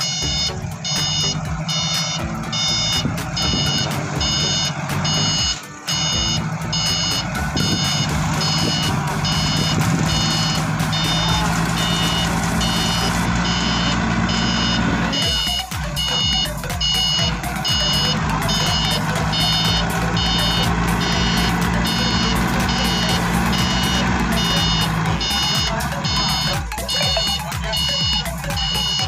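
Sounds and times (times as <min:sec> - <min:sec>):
backup alarm beeping: 0:00.0 - 0:29.0
forklift engine drone: 0:00.0 - 0:29.0.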